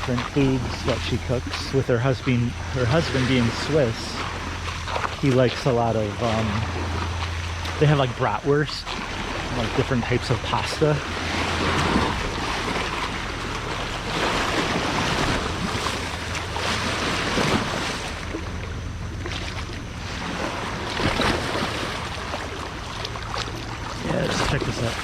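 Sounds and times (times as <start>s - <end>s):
faint low hum: 0.0s - 25.0s
waves washing on shore: 0.0s - 25.0s.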